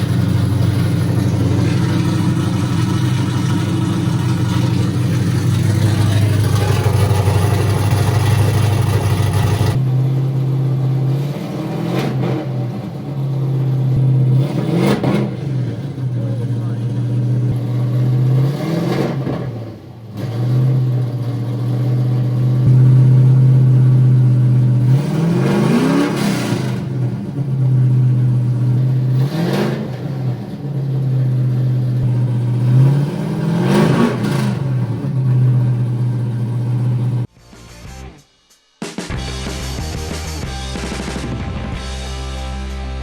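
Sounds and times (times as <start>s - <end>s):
car engine idling and revving: 0.0s - 37.3s.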